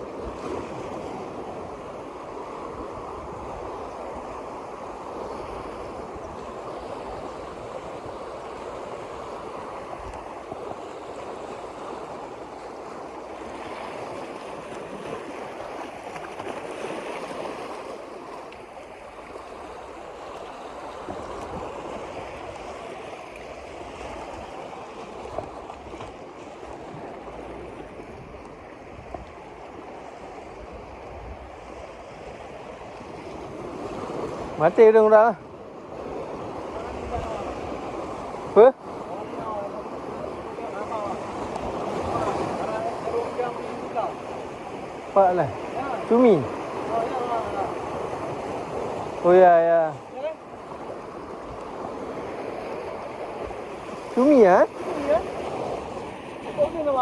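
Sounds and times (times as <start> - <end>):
wind buffeting microphone: 0.0 - 34.7, 35.4 - 49.4
water and small waves: 0.0 - 57.0.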